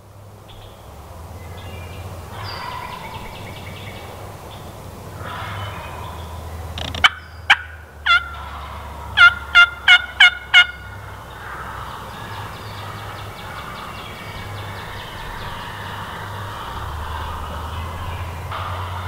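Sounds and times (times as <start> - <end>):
wild turkeys calling: 0.5 - 19.0
fast rattling turkey calls: 1.6 - 19.0.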